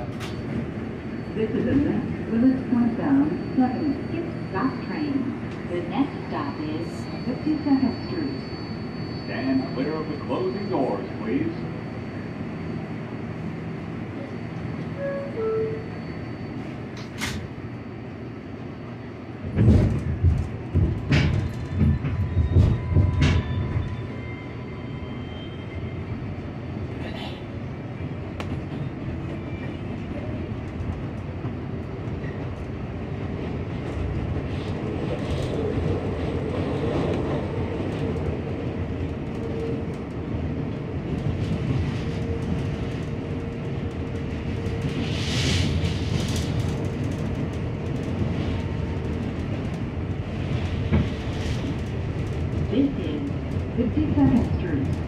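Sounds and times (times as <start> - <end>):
train running noise: 0.0 - 55.0.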